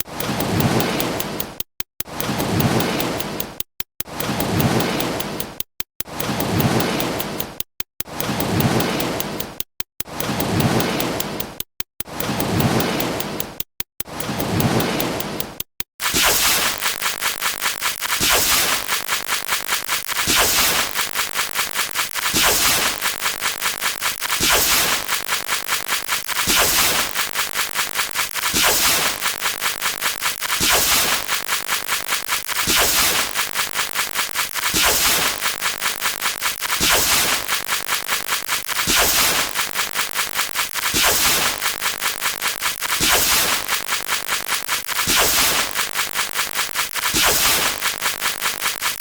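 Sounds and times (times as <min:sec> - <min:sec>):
rapid metal tapping: 0:00.0 - 0:49.0.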